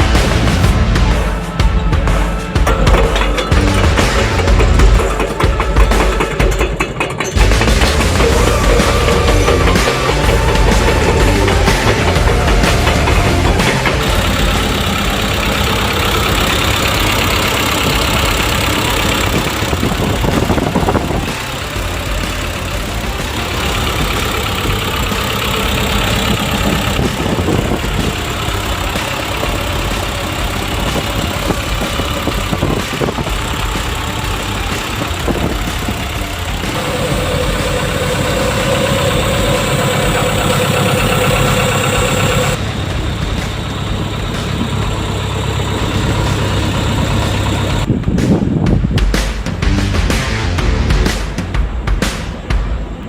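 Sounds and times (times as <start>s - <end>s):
excavator diesel engine running: 0.0s - 51.9s
steady whine: 0.0s - 53.0s.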